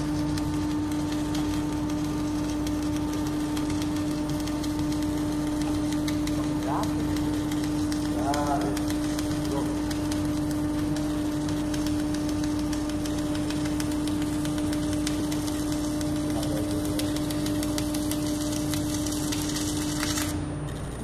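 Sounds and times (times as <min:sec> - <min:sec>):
welding arc hum and crackle: 0:00.0 - 0:21.0.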